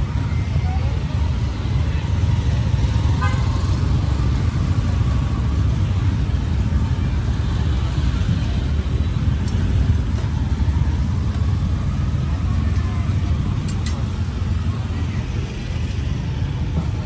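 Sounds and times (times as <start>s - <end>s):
faint voices: 0.0s - 3.8s, 5.0s - 17.0s
low rumble of traffic: 0.0s - 17.0s.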